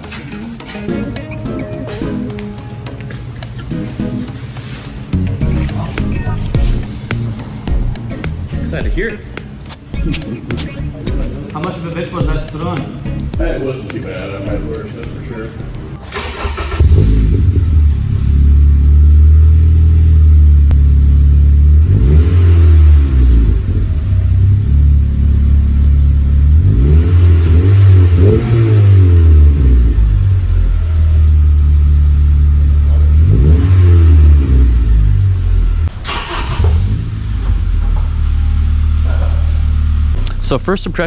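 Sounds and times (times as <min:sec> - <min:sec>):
car engine idling and revving: 0:03.0 - 0:13.6, 0:14.3 - 0:41.0.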